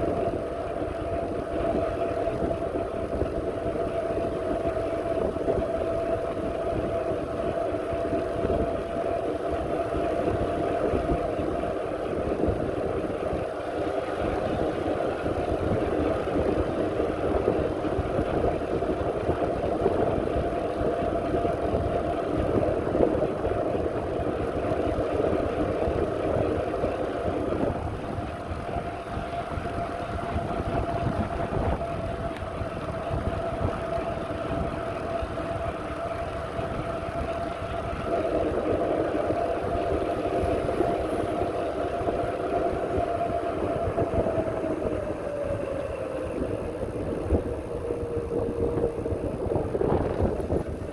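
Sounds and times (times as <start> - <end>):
constant whine: 0.0 - 50.9
low rumble of wind and ground: 0.0 - 50.9.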